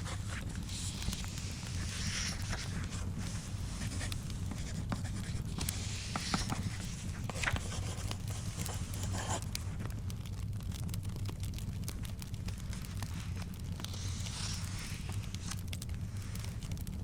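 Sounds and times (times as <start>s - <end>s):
book pages turning: 0.0s - 10.0s, 11.5s - 16.9s
wood fire crackling and popping: 0.0s - 17.0s.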